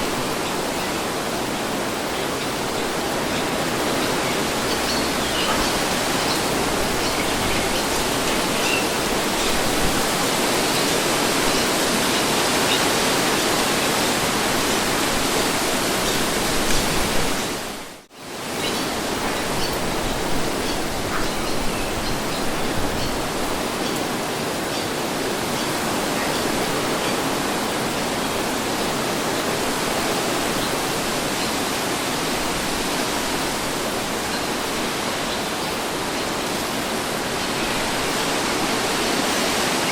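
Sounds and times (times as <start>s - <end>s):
wind rushing with gusts: 0.0s - 39.9s.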